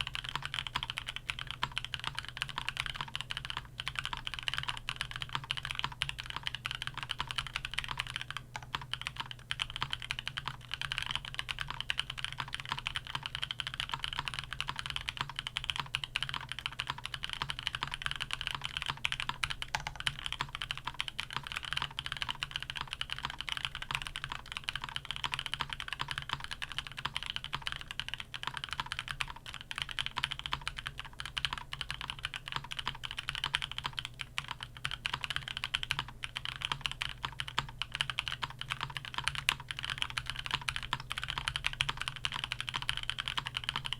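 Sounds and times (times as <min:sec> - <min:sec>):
fast mechanical keyboard typing: 0:00.0 - 0:43.9.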